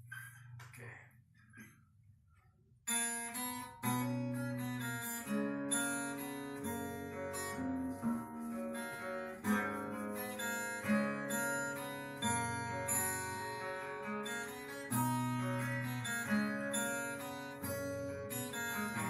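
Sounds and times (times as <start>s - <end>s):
acoustic guitar chords: 2.9s - 19.0s.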